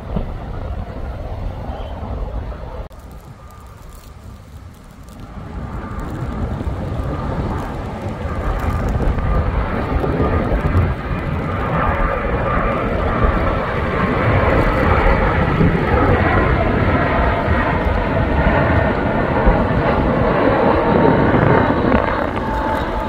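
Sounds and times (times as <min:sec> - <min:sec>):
jet airliner engine roar: 0:00.0 - 0:23.0.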